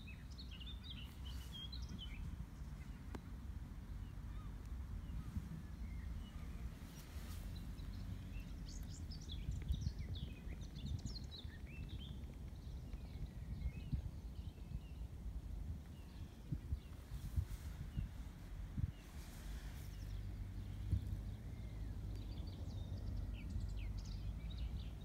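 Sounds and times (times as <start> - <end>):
songbirds chirping: 0.0 - 25.0
wind on microphone: 0.0 - 25.0.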